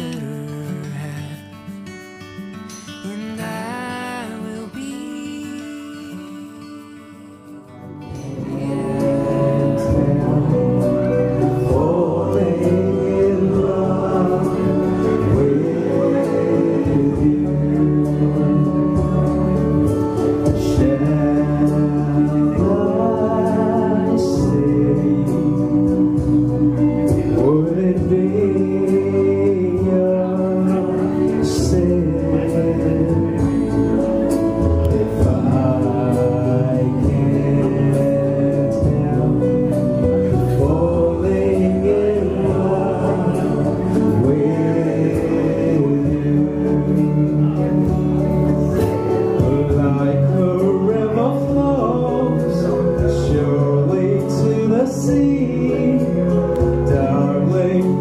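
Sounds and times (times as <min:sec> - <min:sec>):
song with singing: 0:00.0 - 0:58.0.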